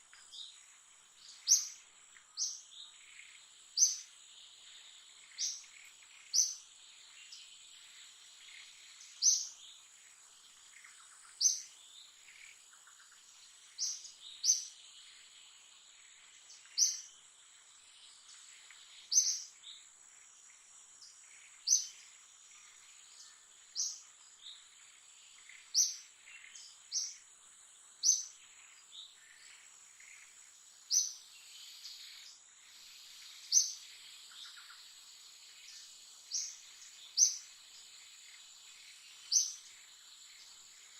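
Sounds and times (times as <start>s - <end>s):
faint hiss: 0.0s - 40.9s.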